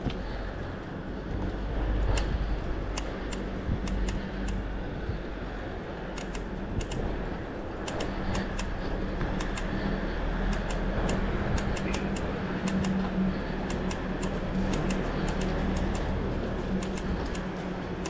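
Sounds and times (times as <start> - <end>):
bicycle clicking and rattling: 0.0 - 18.0
low rumble and hum: 0.0 - 18.0.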